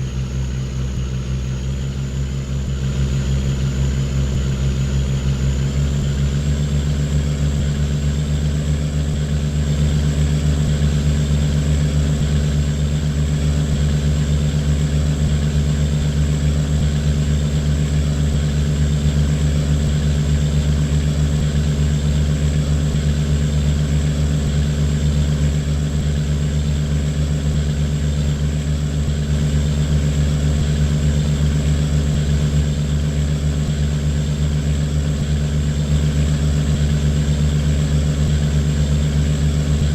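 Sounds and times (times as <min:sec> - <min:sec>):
high engine whine: 0:00.0 - 0:39.9.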